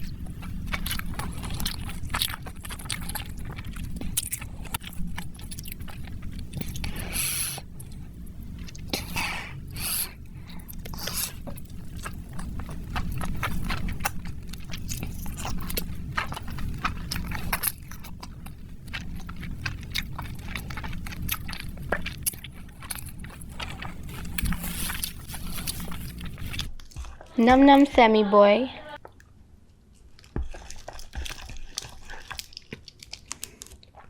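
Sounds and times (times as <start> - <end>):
low steady hum: 0.0 - 29.2
wet chewing and mouth sounds: 0.0 - 34.0.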